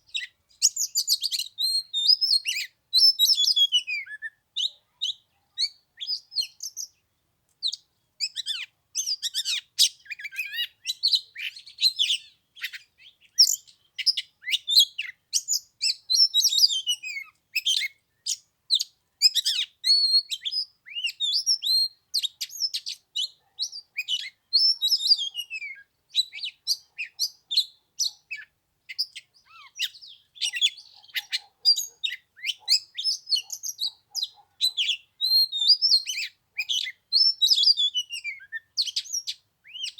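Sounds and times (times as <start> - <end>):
bird singing: 7.6 - 39.9.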